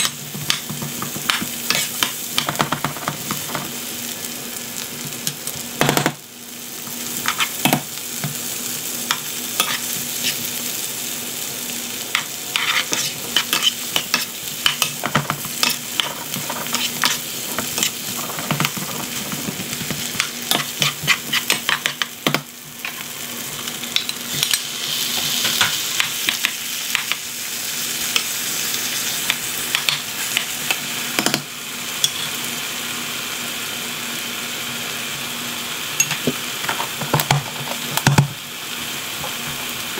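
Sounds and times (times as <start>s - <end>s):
vegetables sizzling in butter: 0.0s - 39.9s.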